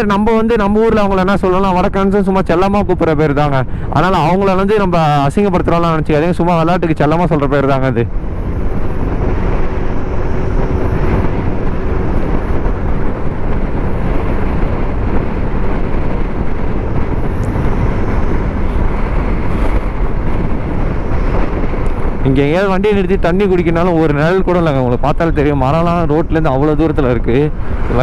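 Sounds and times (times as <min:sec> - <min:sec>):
scooter engine and tyre noise: 0:00.0 - 0:28.0
wind rushing over microphone: 0:00.0 - 0:28.0.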